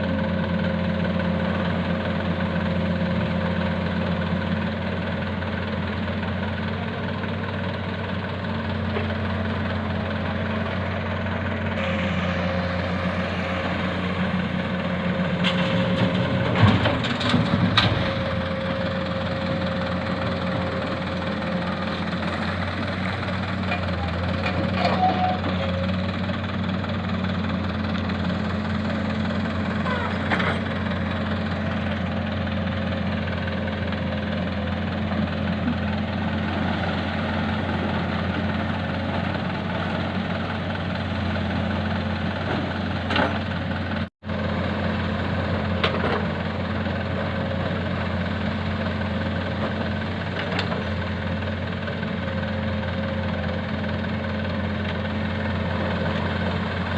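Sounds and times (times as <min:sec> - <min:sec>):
diesel machinery engine running: 0:00.0 - 0:56.9.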